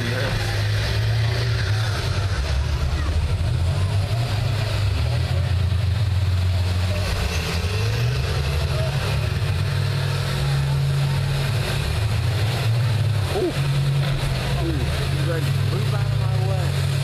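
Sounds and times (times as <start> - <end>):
bus engines rumbling: 0.0 - 17.0
engine revving up: 0.0 - 17.0.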